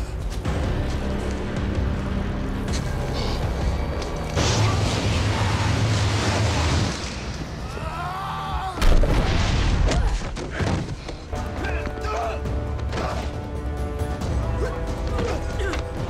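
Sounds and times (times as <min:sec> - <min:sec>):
film music: 0:00.0 - 0:16.0.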